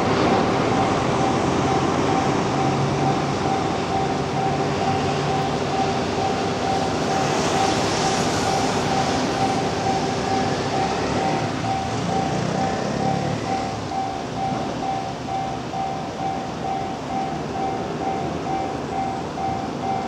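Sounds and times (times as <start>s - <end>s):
electric train passing: 0.0s - 20.0s
level crossing bell ringing: 0.3s - 20.0s.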